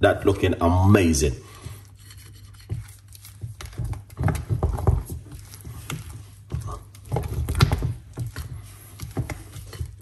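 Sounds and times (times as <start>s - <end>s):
utensil knocking and scraping bowl: 1.5s - 10.0s.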